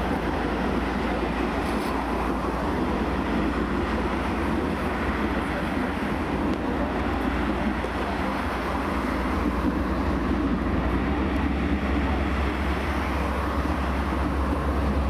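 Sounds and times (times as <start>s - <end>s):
electric tram on tracks: 0.0s - 15.0s
road traffic rumble: 0.0s - 15.0s.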